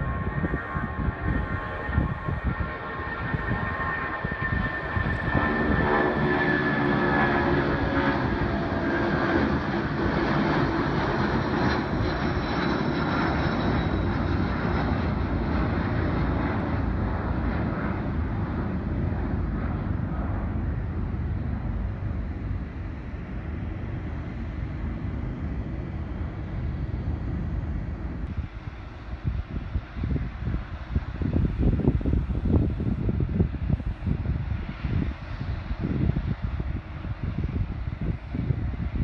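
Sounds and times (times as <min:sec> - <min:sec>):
jet engine roar with whine: 0:00.0 - 0:39.0.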